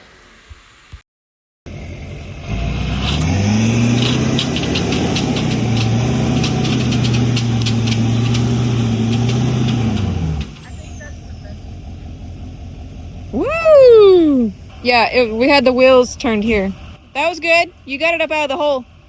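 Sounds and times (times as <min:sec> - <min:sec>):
engine revving under load: 0:01.7 - 0:19.0.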